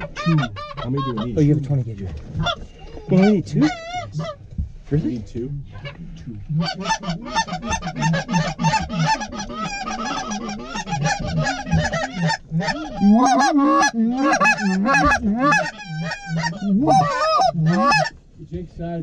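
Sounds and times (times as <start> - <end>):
goose honking: 0.0 - 1.4, 2.4 - 4.4, 5.8 - 18.2.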